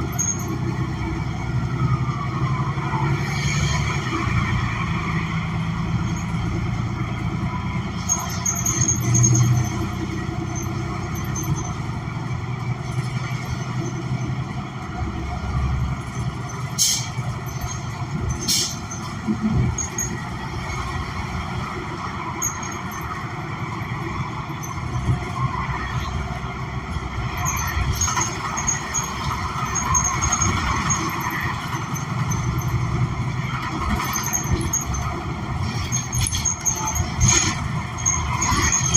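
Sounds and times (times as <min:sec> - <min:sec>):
bus engine running: 0:00.0 - 0:38.9
road and tyre noise: 0:00.0 - 0:38.9.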